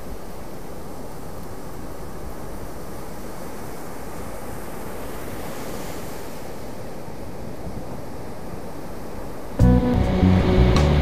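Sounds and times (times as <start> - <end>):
ocean surf breaking: 0.0 - 9.6.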